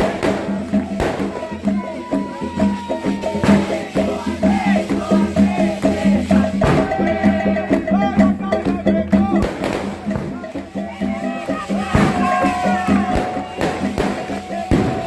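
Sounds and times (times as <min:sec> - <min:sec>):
shaker rattle: 0:00.0 - 0:08.5, 0:09.2 - 0:15.0
percussion strokes: 0:00.0 - 0:15.0
sung chanting: 0:00.0 - 0:15.0.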